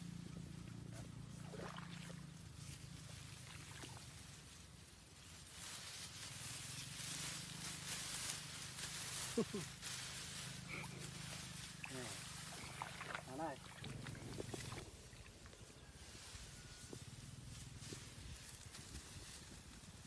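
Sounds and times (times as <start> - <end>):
rice stalks rustling: 0.2 - 20.0.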